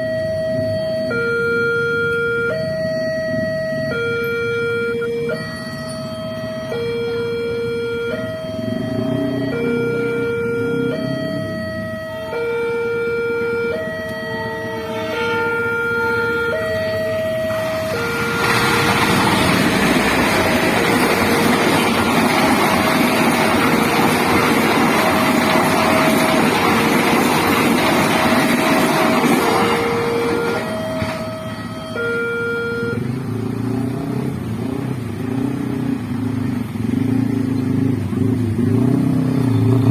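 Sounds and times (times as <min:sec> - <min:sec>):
level crossing alarm two-tone: 0:00.0 - 0:33.1
motorbike and car engines idling: 0:02.5 - 0:15.0, 0:15.7 - 0:39.9
train passing with rushing rumble: 0:05.4 - 0:32.1, 0:32.9 - 0:39.9.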